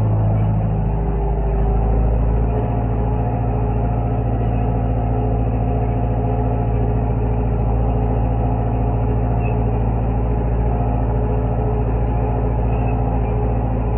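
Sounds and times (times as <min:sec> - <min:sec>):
tractor engine droning: 0:00.0 - 0:13.9.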